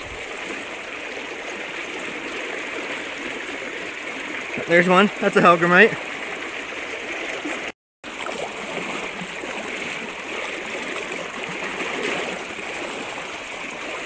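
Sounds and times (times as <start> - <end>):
river water rushing and splashing: 0.0 - 14.0.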